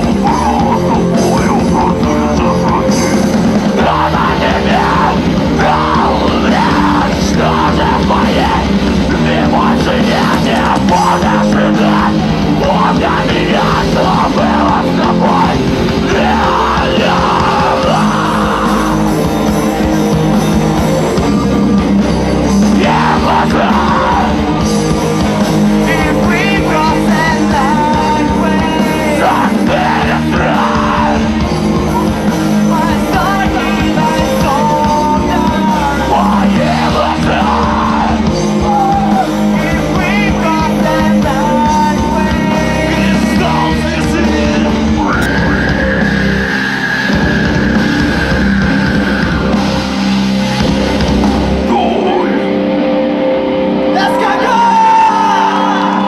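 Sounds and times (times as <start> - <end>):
distorted guitars: 0.0 - 56.0
drums: 0.0 - 56.0
vocals: 0.0 - 56.0.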